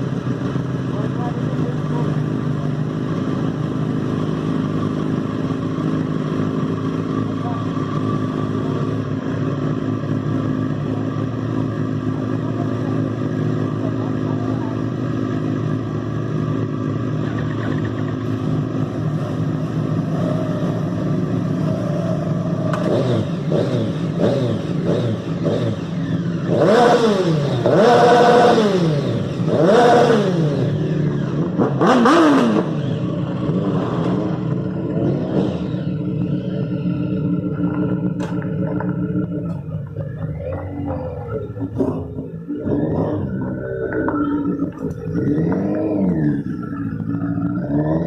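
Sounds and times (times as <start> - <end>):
motorcycle engines revving: 0.0 - 48.0.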